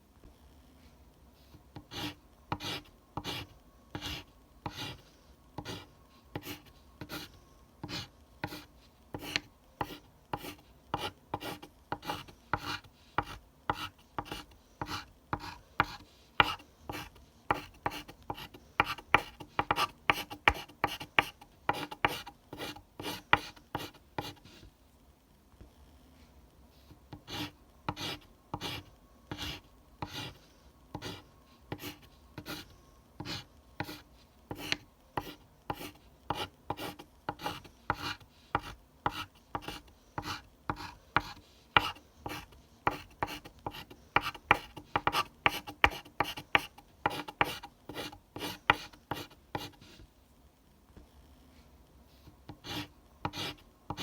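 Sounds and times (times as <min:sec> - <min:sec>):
pencil scratching on paper: 0:01.8 - 0:03.4, 0:04.0 - 0:24.6, 0:27.1 - 0:50.0, 0:52.2 - 0:54.0.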